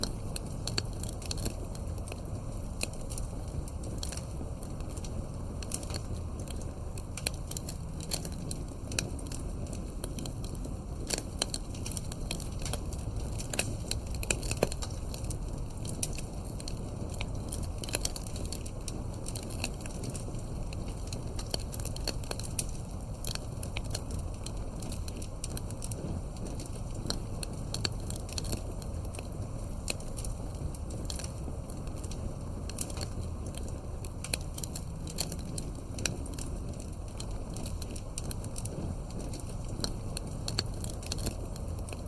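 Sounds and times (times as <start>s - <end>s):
low rumble of flames: 0.0s - 42.0s
wood fire crackling: 0.0s - 42.0s.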